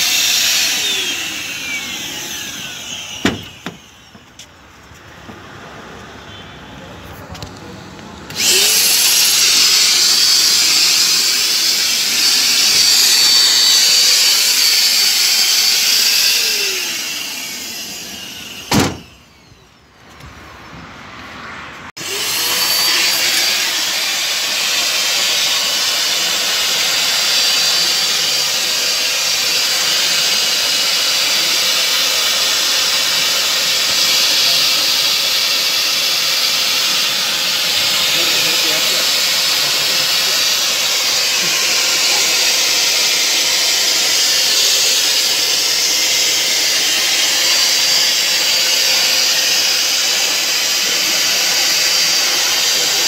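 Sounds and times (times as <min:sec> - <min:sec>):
fogger motor whining: 0:00.0 - 0:04.4, 0:08.3 - 0:19.8, 0:22.0 - 0:53.0.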